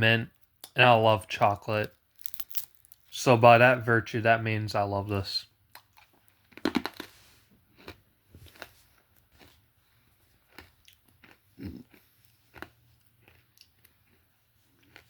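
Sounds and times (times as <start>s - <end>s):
hard candy crunching: 0.4s - 3.2s, 5.8s - 15.0s.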